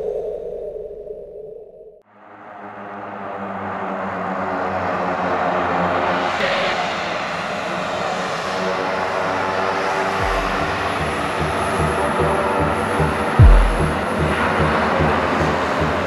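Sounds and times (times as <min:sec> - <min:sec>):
propeller plane engines running: 0:02.6 - 0:16.0.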